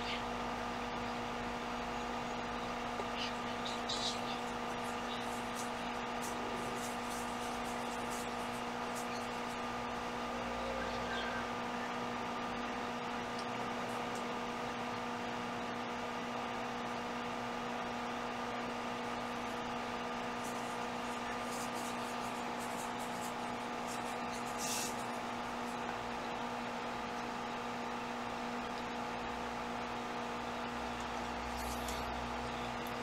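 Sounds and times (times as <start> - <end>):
background hum and hiss: 0.0 - 33.0.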